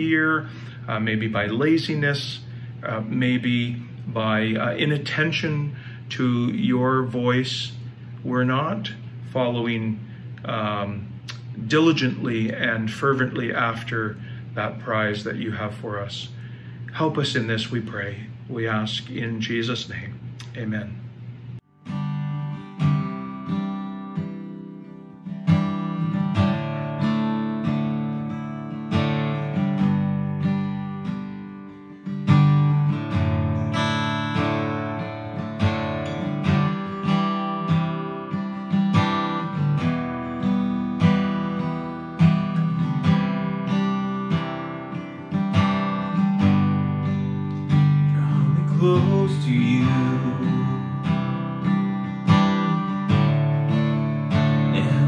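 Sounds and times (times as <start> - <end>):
acoustic guitar strumming chords: 0.0 - 20.9, 21.6 - 55.0.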